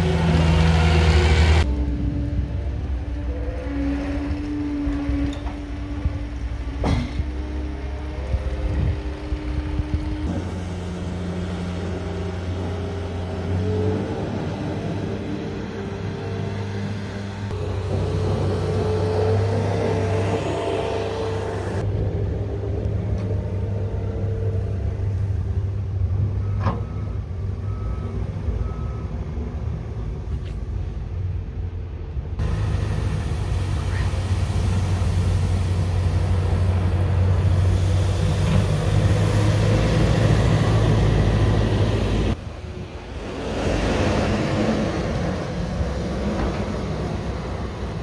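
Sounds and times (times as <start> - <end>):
diesel engines running: 0.0 - 48.0.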